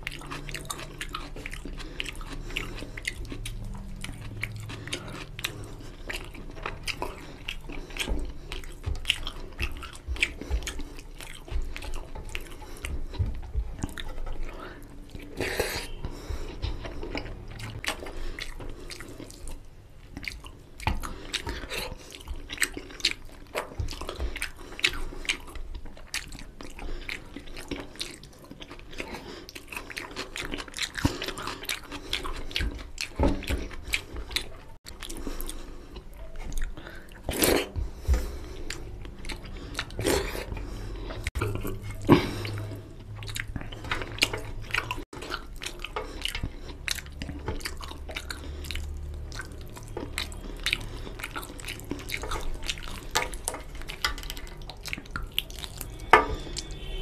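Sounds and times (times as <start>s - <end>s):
man chewing food: 0.0s - 57.0s.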